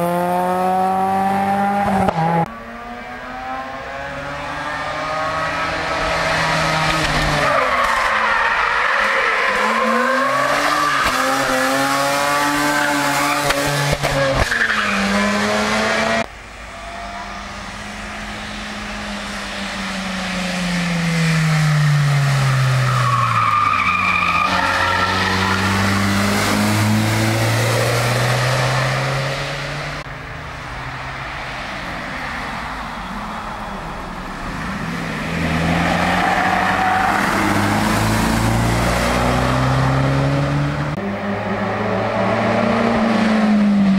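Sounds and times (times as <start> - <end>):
racing car engines revving: 0.0 - 43.9.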